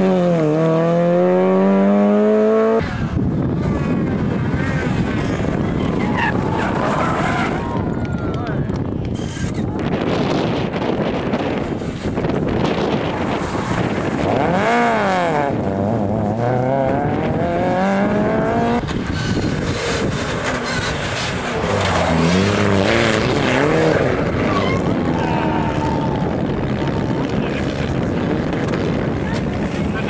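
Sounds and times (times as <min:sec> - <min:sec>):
rally car engine revving: 0:00.0 - 0:07.8, 0:09.2 - 0:30.0.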